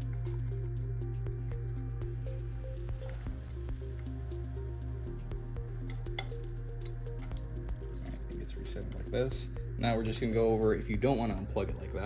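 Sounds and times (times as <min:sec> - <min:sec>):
steady low bass: 0:00.0 - 0:12.0.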